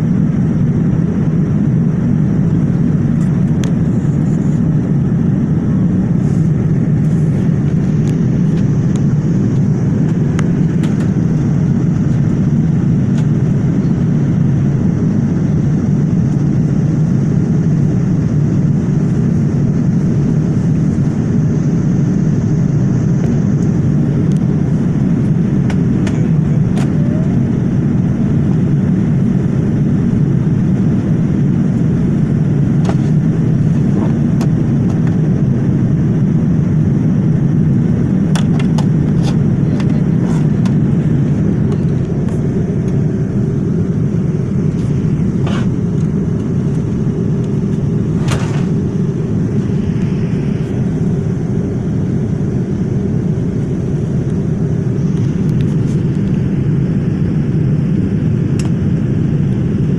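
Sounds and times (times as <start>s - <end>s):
airliner cabin roar in flight: 0.0s - 59.9s.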